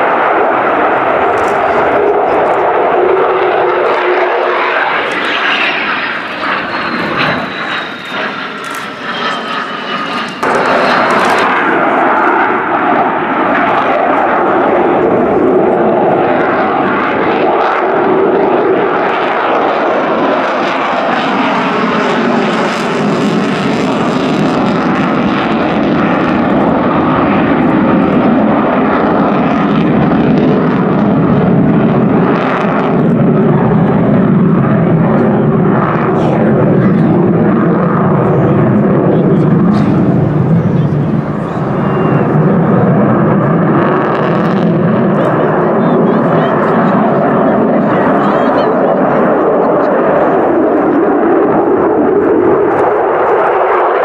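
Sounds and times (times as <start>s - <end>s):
fighter jet roaring: 0.0s - 54.0s
jet whine falling in pitch: 0.0s - 54.0s.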